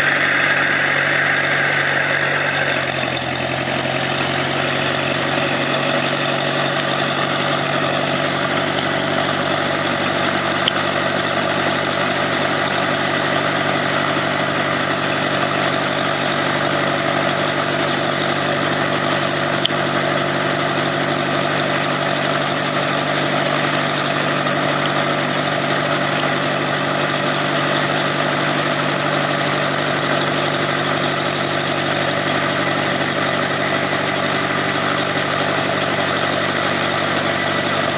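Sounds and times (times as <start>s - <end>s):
helicopter engine and rotor drone: 0.0s - 37.9s.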